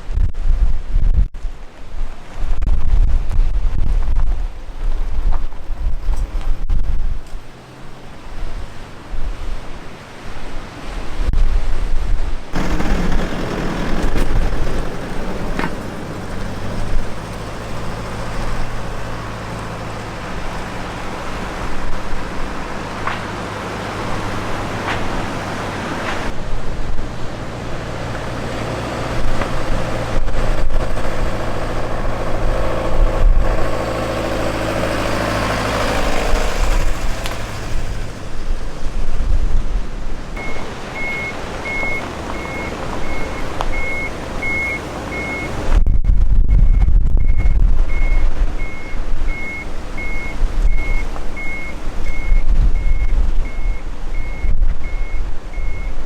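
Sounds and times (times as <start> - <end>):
low engine hum: 2.6 - 56.0
rushing noise: 10.1 - 56.0.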